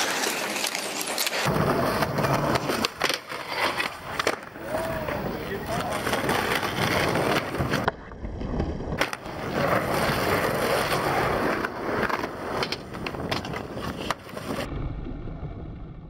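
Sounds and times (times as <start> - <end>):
skateboard clacking on ground: 0.0 - 14.7
skateboard wheels rolling on concrete: 0.0 - 16.0.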